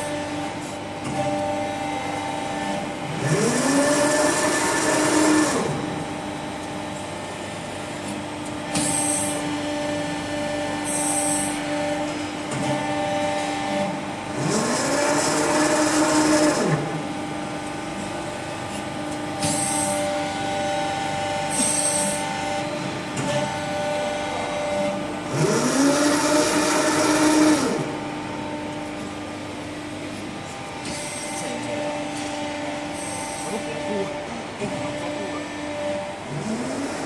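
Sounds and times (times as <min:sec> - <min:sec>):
hydraulic pump hum: 0:00.0 - 0:37.0.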